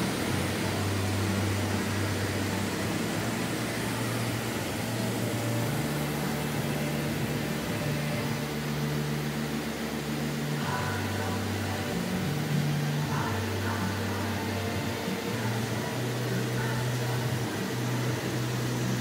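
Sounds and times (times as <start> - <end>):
even hiss: 0.0 - 19.0
lathe humming: 0.0 - 19.0.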